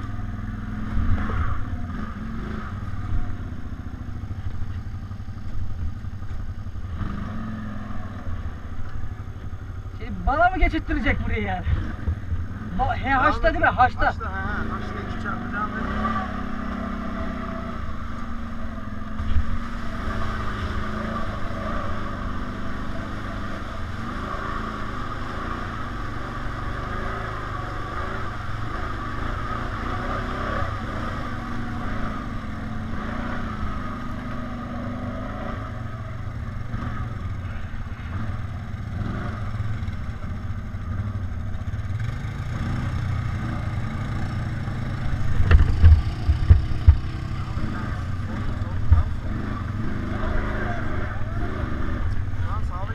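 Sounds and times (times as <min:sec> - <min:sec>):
atv engine running: 0:00.0 - 0:52.9
off-road ride rumble: 0:00.0 - 0:52.9
vehicle jolt: 0:04.2 - 0:52.9.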